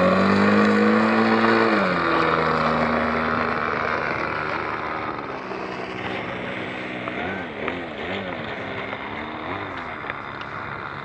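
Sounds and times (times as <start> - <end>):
model airplane engine drone: 0.0 - 11.0.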